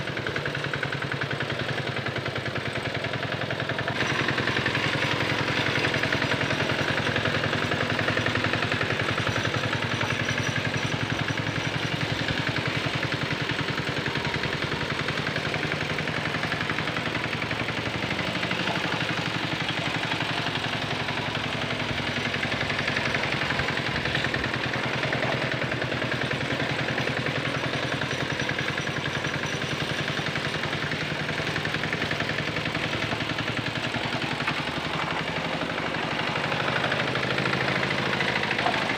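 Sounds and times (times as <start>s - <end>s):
hand tractor engine running: 0.0s - 38.9s.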